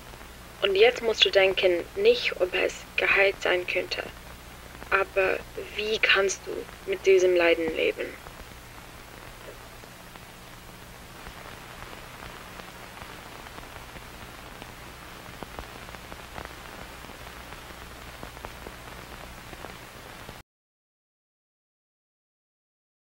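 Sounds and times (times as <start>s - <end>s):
steady ambient hiss: 0.0s - 20.4s.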